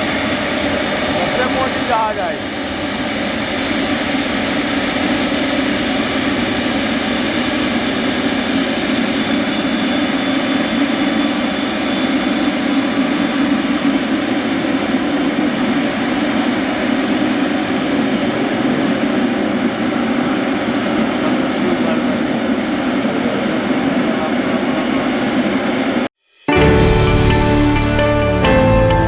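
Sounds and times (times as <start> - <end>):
faint high whine: 0.0 - 29.0
jet engines roaring: 0.0 - 29.0.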